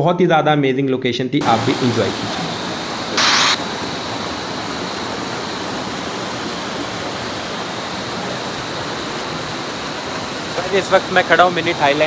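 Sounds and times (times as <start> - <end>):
stream rushing over rocks: 1.4 - 12.0.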